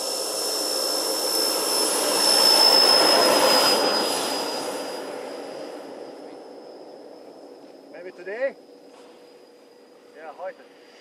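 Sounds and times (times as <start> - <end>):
electric ducted fans roaring: 0.0 - 11.0.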